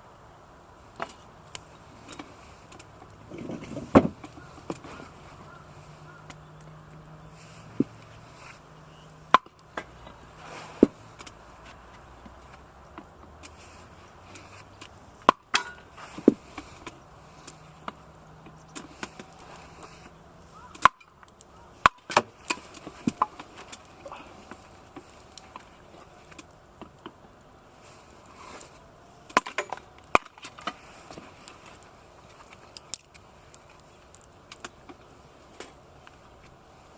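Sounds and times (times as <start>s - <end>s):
firewood breaking by hand: 0.9s - 8.3s, 9.3s - 36.6s.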